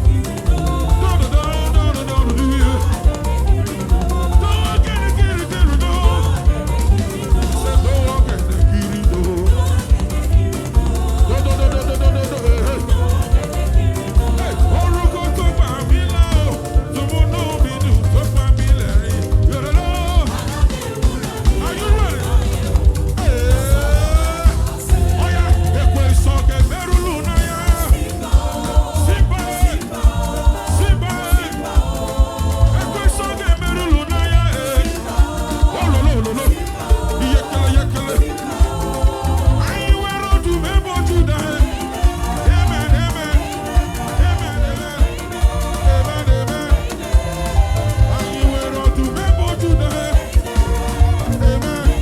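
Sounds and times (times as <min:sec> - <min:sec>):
gospel band playing: 0:00.0 - 0:52.0
melismatic singing: 0:00.0 - 0:52.0.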